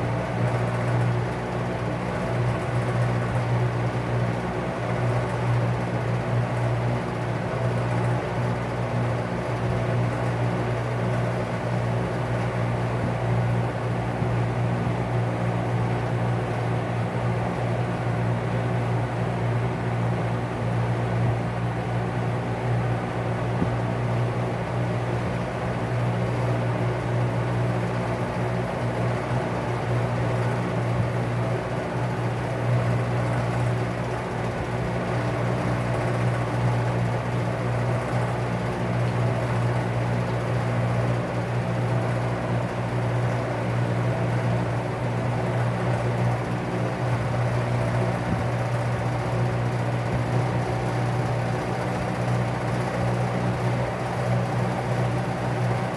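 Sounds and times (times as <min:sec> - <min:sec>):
fan motor hum: 0:00.0 - 0:55.9.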